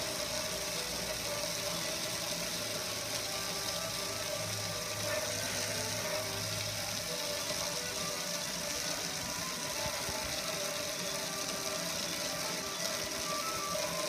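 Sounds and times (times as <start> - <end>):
water splashing onto concrete: 0.0 - 14.0.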